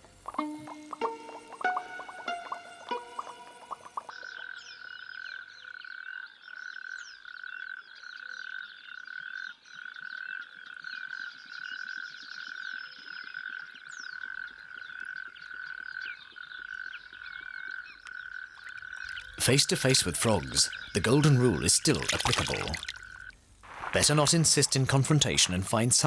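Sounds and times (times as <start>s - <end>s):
frog steady pulsing call: 0.0s - 23.4s
frogs chirping: 0.0s - 24.7s.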